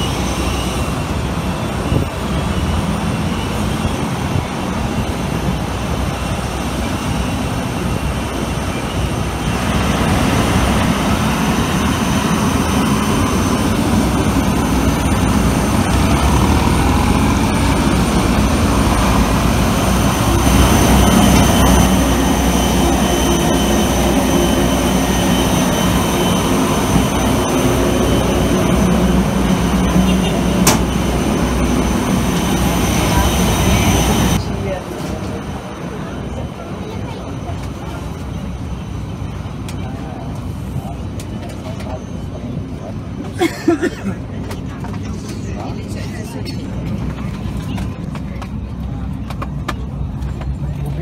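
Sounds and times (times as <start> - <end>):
jet engine whine: 0.0 - 51.0.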